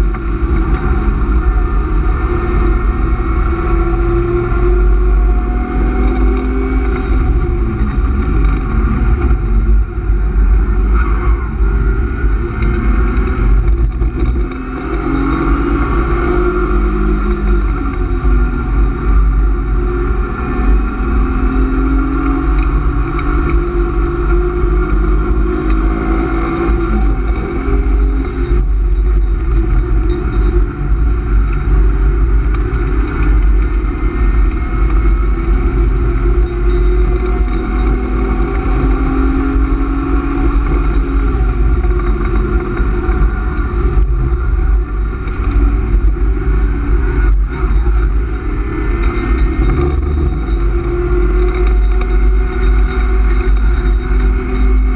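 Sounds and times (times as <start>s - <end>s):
car engine revving: 0.0s - 54.9s
road and wind noise: 0.0s - 54.9s.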